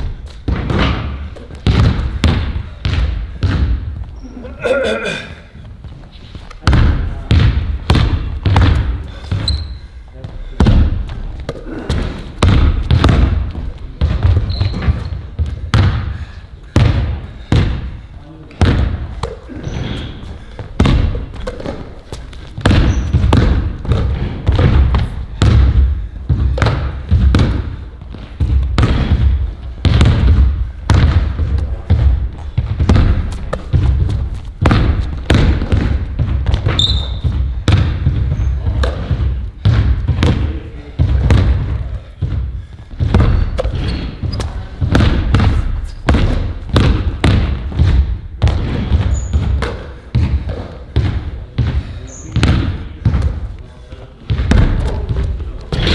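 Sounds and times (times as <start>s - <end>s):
ball bouncing on a hard floor: 0.0s - 4.3s, 5.6s - 55.9s.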